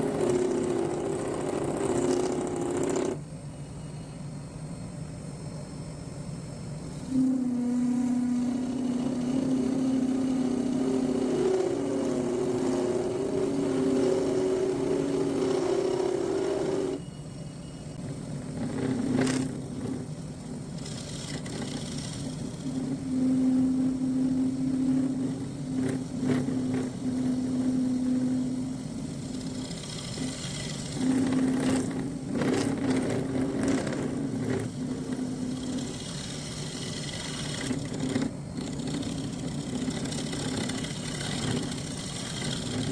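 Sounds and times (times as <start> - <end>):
power tool motor whining: 6.9 - 17.0, 18.0 - 42.9.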